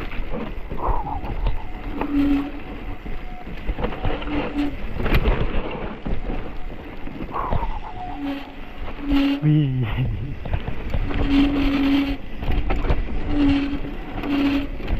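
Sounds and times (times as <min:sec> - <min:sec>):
bike knocking and rattling: 0:00.0 - 0:09.5, 0:10.3 - 0:14.9
uneven rumble: 0:00.0 - 0:14.9
wind rushing on microphone: 0:00.0 - 0:14.9.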